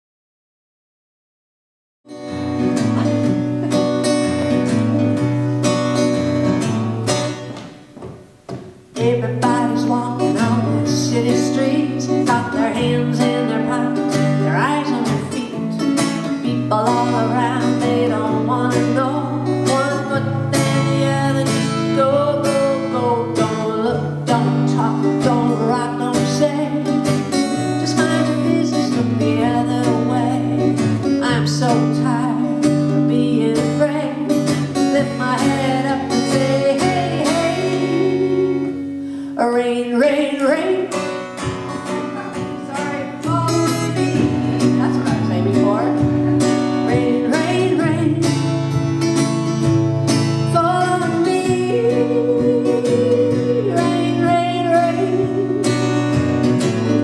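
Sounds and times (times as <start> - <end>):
acoustic guitar strumming: 2.1 - 57.0
woman singing: 8.9 - 48.8, 50.3 - 57.0.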